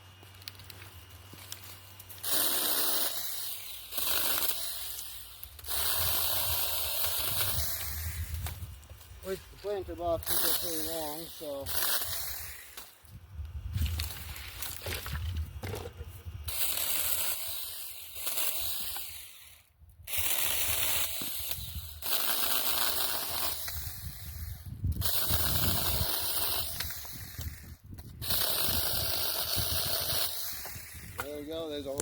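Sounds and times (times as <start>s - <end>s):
chainsaw cutting branches: 0.1s - 32.0s.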